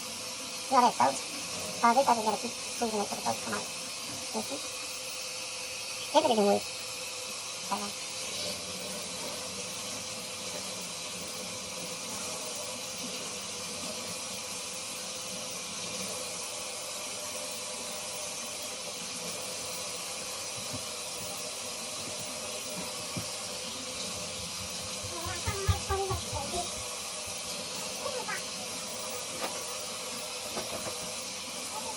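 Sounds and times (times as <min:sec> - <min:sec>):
water running from a tap: 0:00.0 - 0:31.9.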